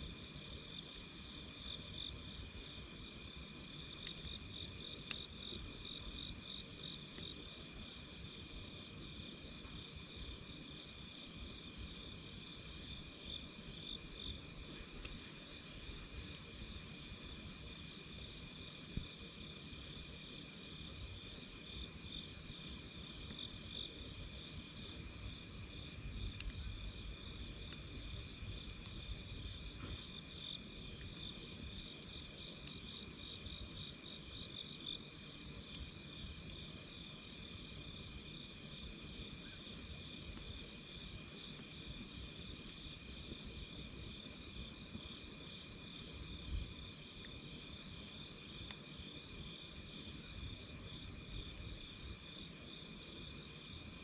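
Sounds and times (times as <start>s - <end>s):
campfire crackling: 0.0s - 54.0s
night insects chirping: 0.0s - 54.0s.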